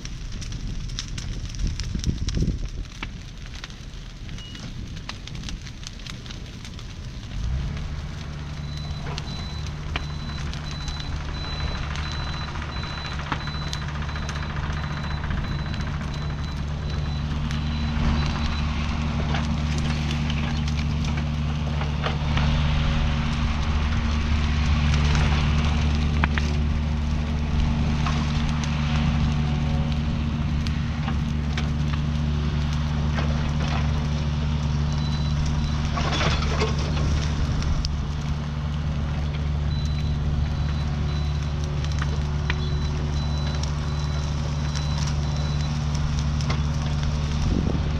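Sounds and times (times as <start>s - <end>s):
fire cracking and snapping: 0.0s - 47.9s
excavator diesel engine: 6.0s - 47.9s.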